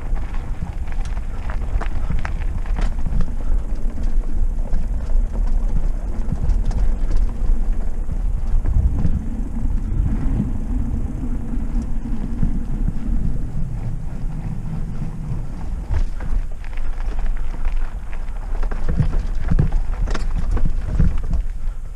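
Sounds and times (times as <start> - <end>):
bike clattering: 0.0 - 21.9
bike tyres rumbling on wooden planks: 0.0 - 21.9.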